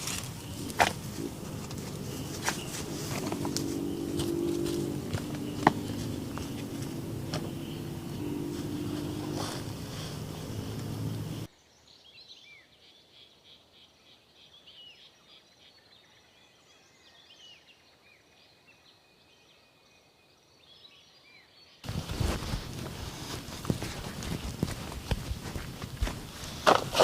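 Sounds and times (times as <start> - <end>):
small birds chirping: 0.0 - 18.8, 20.6 - 27.0.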